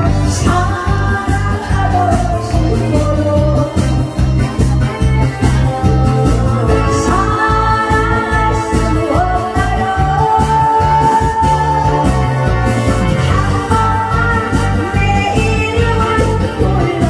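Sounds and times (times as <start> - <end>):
backing music with steady beat: 0.0 - 17.0.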